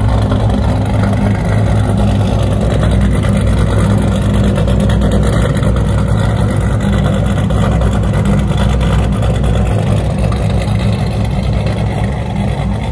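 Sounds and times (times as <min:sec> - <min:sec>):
car engine idling with lope: 0:00.0 - 0:12.9.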